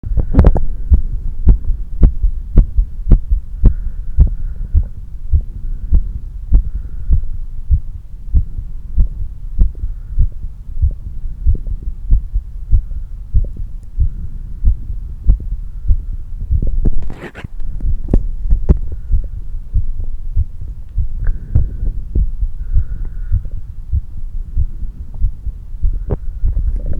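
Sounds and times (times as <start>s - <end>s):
heart beating: 0.0s - 26.9s
steady low hum: 0.0s - 26.9s.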